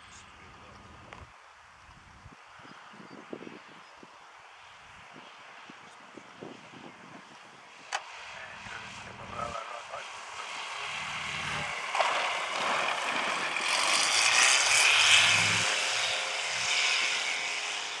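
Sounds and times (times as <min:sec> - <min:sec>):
propeller aircraft engine at full power: 0:02.4 - 0:18.0.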